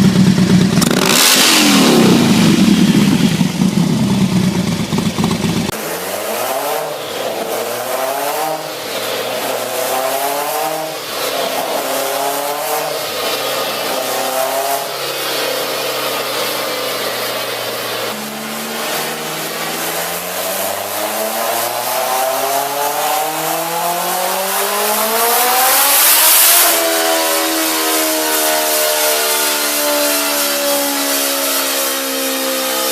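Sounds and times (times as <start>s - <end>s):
engine accelerating through gears: 0.0s - 32.9s.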